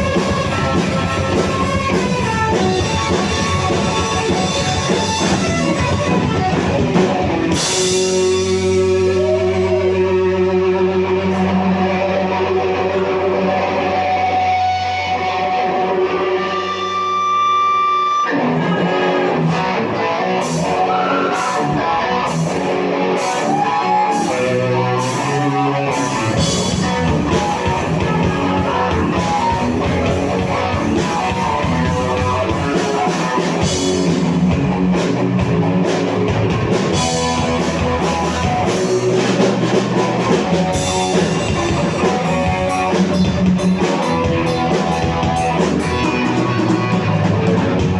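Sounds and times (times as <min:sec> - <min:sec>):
live rock band instrumental: 0:00.0 - 0:47.9.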